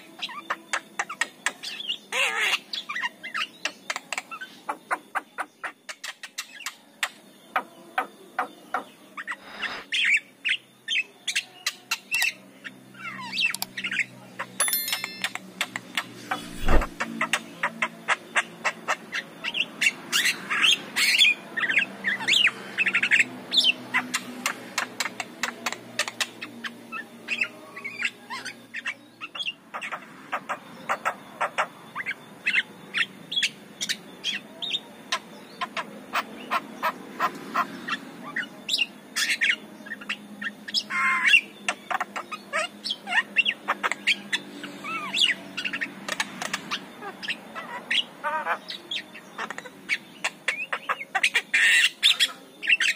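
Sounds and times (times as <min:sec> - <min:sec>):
myna bird singing: 0:00.0 - 0:52.9.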